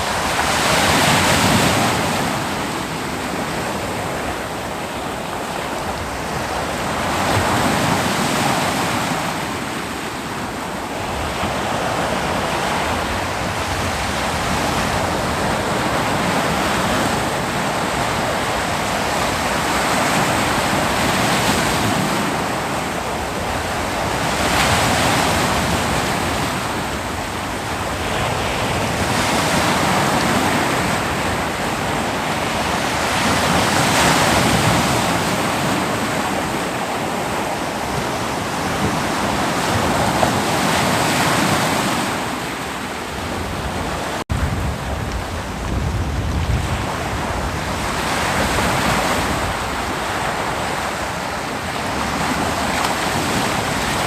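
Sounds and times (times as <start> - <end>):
ocean waves washing onto a beach: 0.0 - 54.0.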